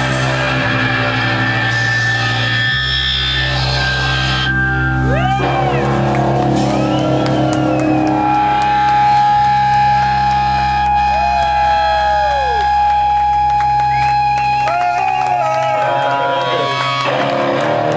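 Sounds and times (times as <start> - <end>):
distorted electric guitar: 0.0 - 17.9.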